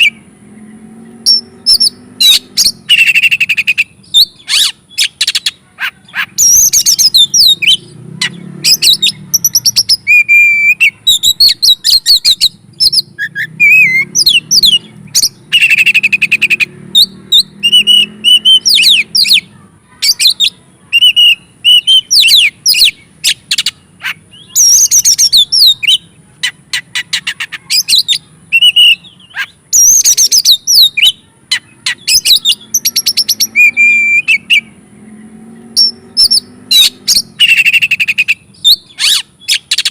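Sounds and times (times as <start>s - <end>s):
bird singing whistles and trills: 1.0s - 19.5s, 20.1s - 34.8s, 35.7s - 39.9s.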